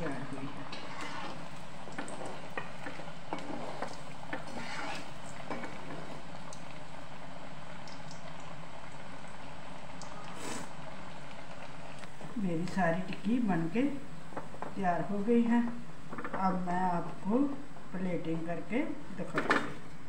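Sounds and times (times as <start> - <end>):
oil sizzling and bubbling: 0.0 - 20.0.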